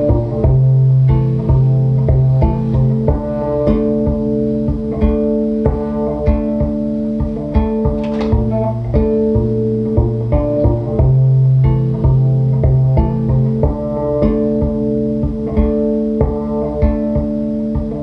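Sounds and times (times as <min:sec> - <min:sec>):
held low cello tones: 0:00.0 - 0:18.0
plucked cello notes: 0:00.0 - 0:18.0.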